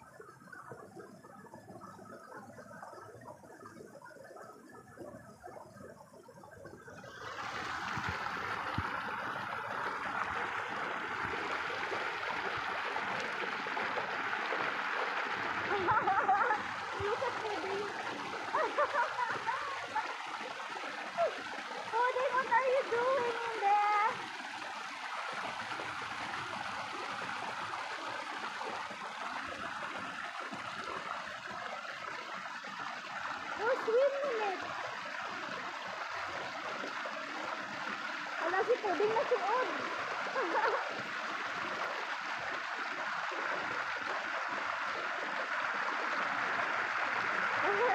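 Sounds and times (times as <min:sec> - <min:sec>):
stream water pouring over rocks: 0:00.0 - 0:47.9.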